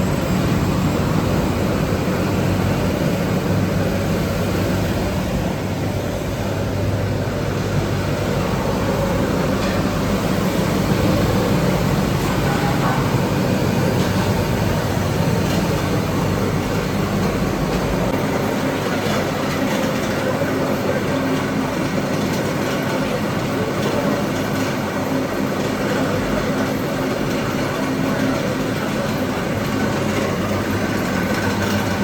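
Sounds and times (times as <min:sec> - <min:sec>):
machinery noise: 0:00.0 - 0:32.0
steady hum: 0:00.0 - 0:32.0.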